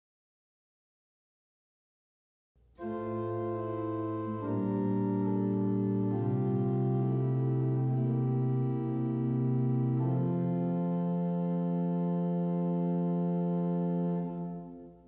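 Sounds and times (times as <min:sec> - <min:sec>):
organ playing slow chords: 0:02.8 - 0:15.0.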